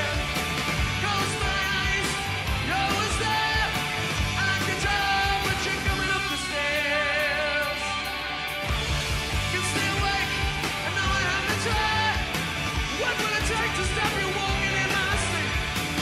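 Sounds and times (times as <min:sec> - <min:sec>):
man singing: 0:00.0 - 0:08.1, 0:09.5 - 0:15.6
rock band playing: 0:00.0 - 0:16.0.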